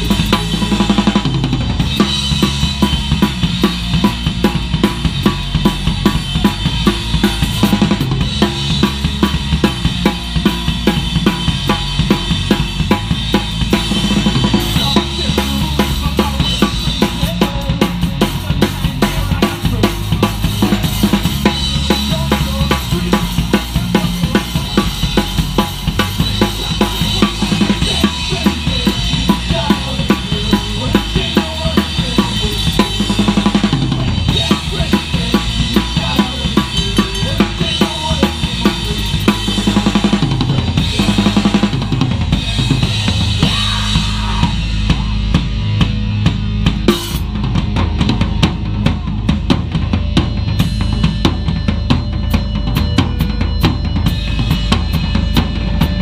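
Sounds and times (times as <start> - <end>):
bass guitar notes: 0.0 - 56.0
punk band playing live: 0.0 - 56.0.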